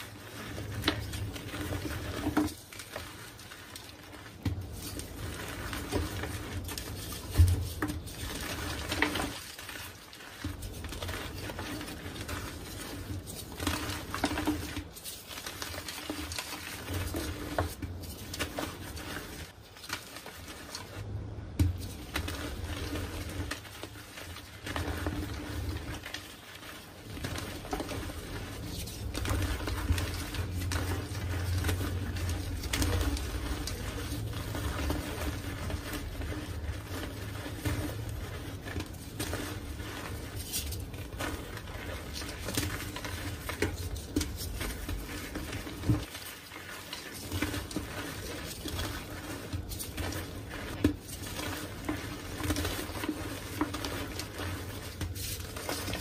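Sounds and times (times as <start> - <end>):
hands crumbling chalk: 0.0 - 21.0, 21.6 - 56.0.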